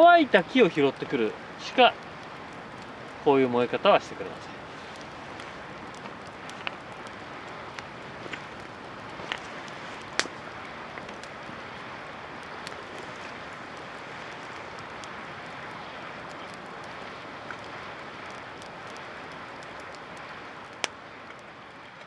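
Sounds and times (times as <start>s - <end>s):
steady rushing hiss: 0.0s - 21.8s
campfire crackling and popping: 0.0s - 22.0s.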